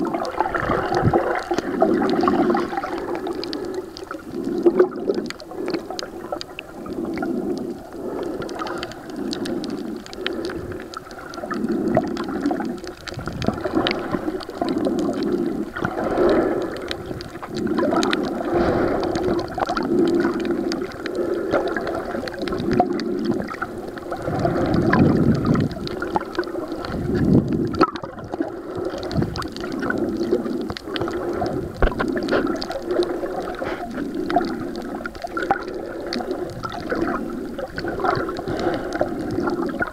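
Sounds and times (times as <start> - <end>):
muffled underwater gurgling: 0.0 - 39.9.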